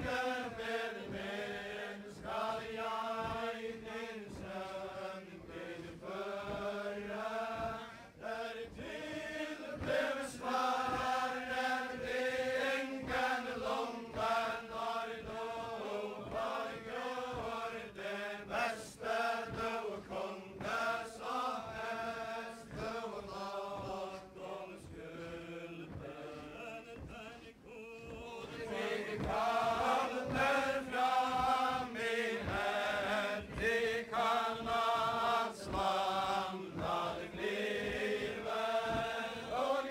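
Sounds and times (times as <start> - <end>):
group singing in unison: 0.0 - 39.9.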